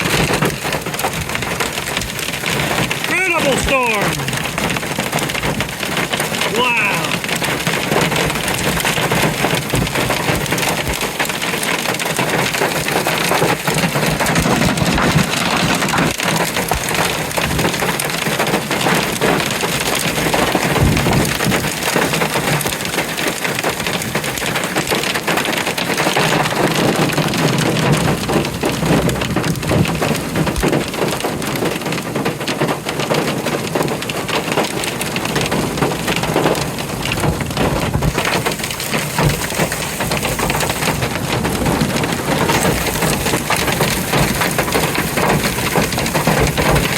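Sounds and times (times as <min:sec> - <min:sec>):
heavy rain and hail pelting: 0:00.0 - 0:46.9.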